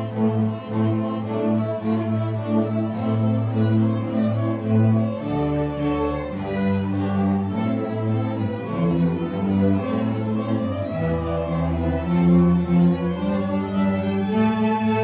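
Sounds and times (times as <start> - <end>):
string orchestra playing: 0.0 - 15.0.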